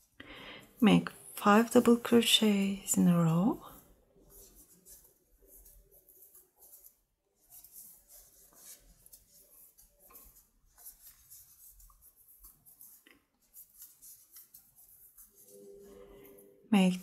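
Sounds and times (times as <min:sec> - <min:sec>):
yarn rustling on crochet hook: 0:00.8 - 0:17.0.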